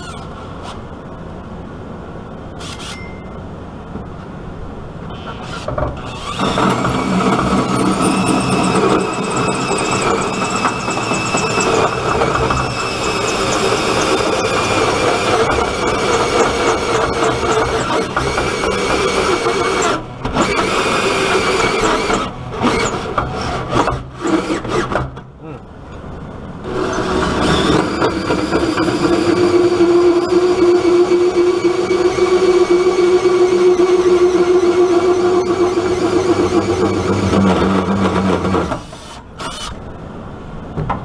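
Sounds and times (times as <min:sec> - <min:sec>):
hole saw grinding metal: 0:02.6 - 0:03.2, 0:05.2 - 0:25.0, 0:26.6 - 0:39.8
drill motor whining: 0:05.2 - 0:25.0, 0:26.6 - 0:39.8.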